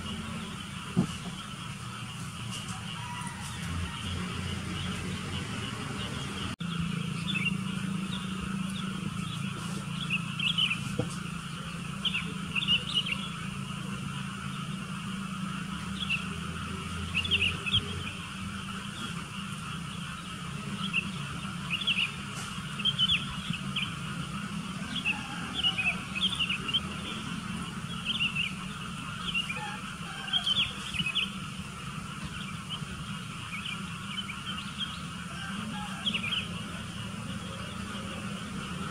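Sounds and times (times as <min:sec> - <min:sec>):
birds chirping: 0:00.0 - 0:38.9
steady low hum: 0:00.0 - 0:38.9.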